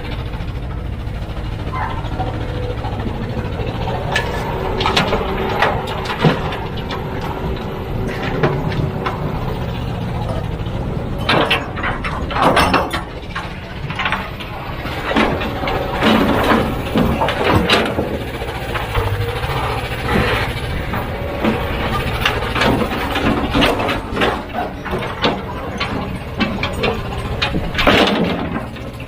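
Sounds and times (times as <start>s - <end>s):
clanks and knocks: 0.0s - 29.0s
diesel machine running: 0.0s - 29.0s.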